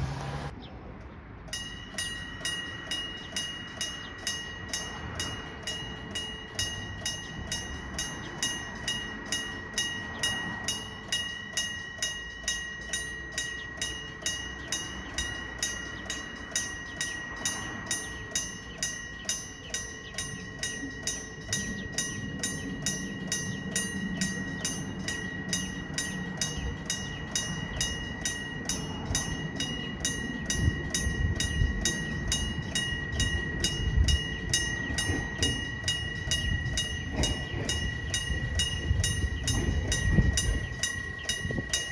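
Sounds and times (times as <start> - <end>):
level crossing warning bell: 0.0 - 41.9
train rumbling across crossing: 0.0 - 41.9
sharp knocks of train wheels: 1.5 - 41.9.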